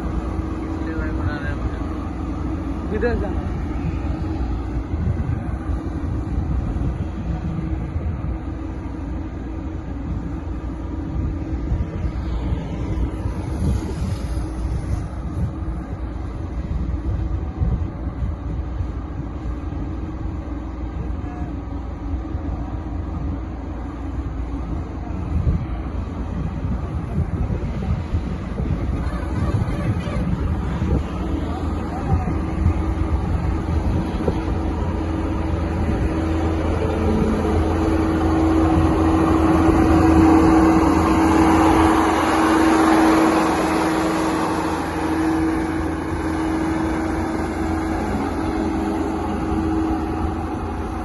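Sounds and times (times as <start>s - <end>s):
diesel engine rumbling: 0.0s - 51.0s.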